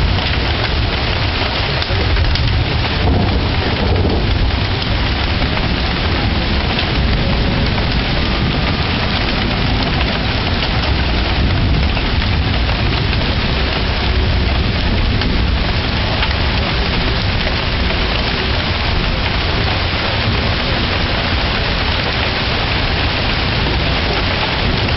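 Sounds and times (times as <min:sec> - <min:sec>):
low rumble: 0:00.0 - 0:24.9
rain splashing on hard ground: 0:00.0 - 0:24.9.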